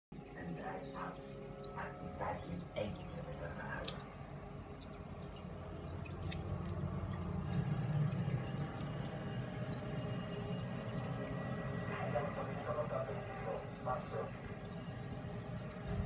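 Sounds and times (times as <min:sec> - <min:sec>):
aquarium filter hum: 0:00.1 - 0:16.0
water trickling into a tank: 0:00.1 - 0:16.0.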